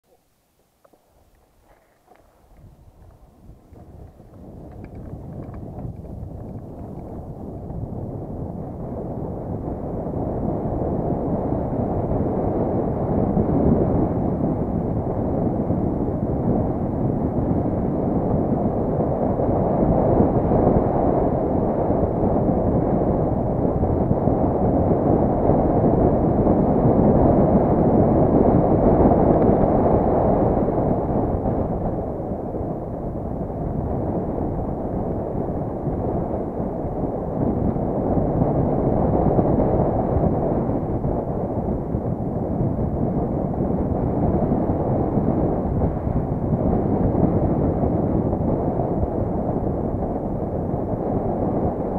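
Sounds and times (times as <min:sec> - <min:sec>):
bicycle tyre rumble on concrete: 0:00.6 - 0:51.9
wind rush on microphone: 0:00.9 - 0:51.9.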